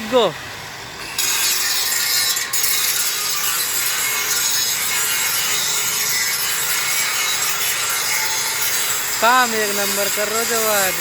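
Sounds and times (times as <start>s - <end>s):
angle grinder grinding steel: 1.0s - 11.0s.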